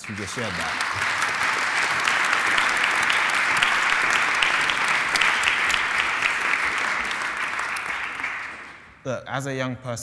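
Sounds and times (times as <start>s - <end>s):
audience clapping: 0.0s - 9.0s.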